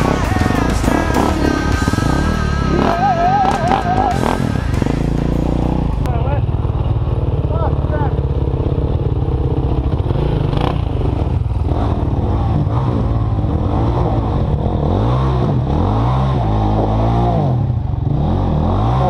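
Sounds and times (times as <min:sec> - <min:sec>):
dirt bike engines revving: 0:00.0 - 0:19.0
low engine drone: 0:00.0 - 0:19.0.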